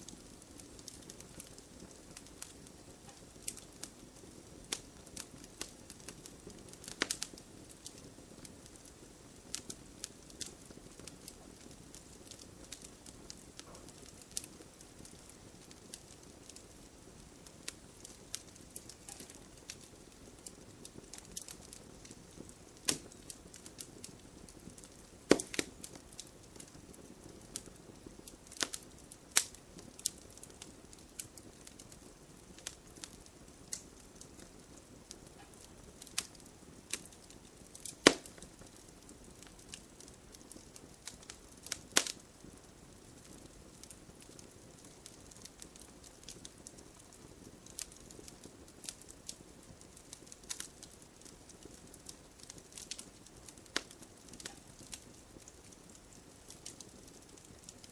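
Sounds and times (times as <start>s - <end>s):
bonfire crackling and popping: 0.0s - 57.9s.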